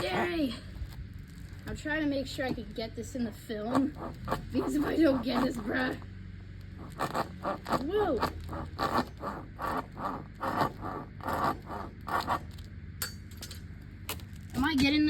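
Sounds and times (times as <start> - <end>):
saw rasping through ball: 0.0 - 0.8, 1.4 - 14.7.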